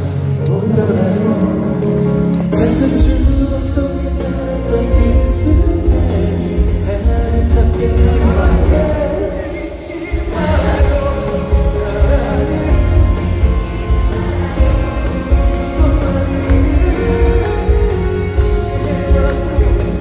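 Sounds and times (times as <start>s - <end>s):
amplified band with heavy bass: 0.0s - 20.0s
male vocal group singing pop song: 0.0s - 20.0s.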